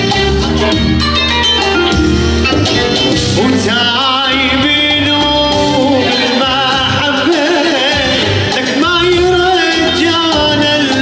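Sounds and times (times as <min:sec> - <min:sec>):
electronic keyboard band music: 0:00.0 - 0:11.0.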